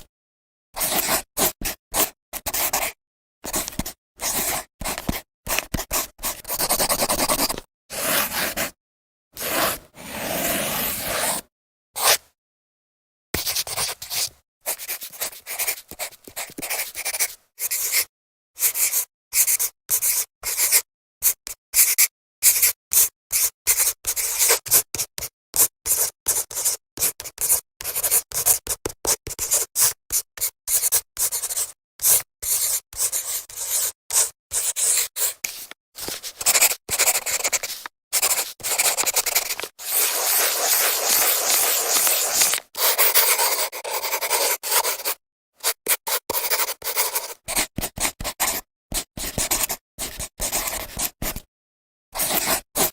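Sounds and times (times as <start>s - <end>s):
marker scraping on whiteboard: 0.8s - 2.9s, 3.5s - 8.8s, 9.4s - 11.4s, 12.0s - 12.3s, 13.4s - 20.8s, 25.9s - 51.4s, 52.2s - 52.9s.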